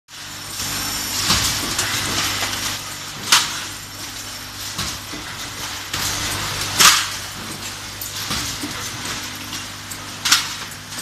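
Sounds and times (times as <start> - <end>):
machine electrical hum and hiss: 0.1 - 11.0
metal lids clattering on conveyor: 0.1 - 11.0.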